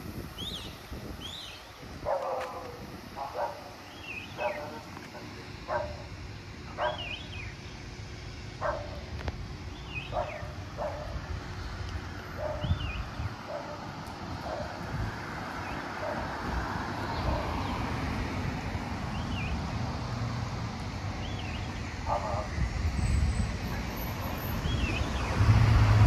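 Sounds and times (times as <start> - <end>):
road traffic rumble: 0.0 - 26.0
vehicle engine passing close: 2.0 - 26.0.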